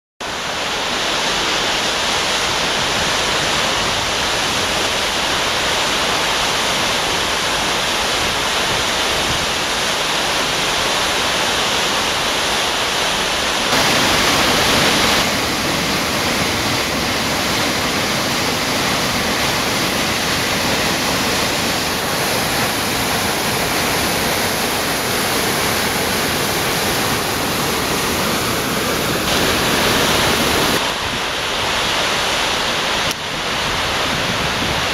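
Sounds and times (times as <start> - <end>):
torrent of water roaring: 0.2 - 34.9.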